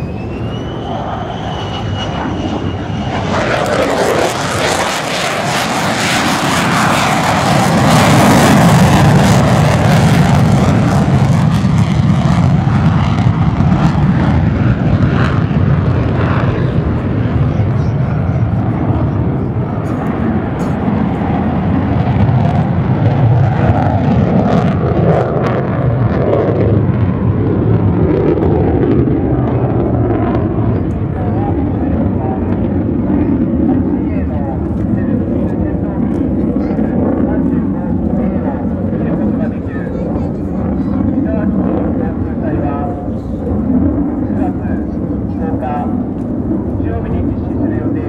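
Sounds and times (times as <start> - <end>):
jet engine roaring: 0.0 - 48.0.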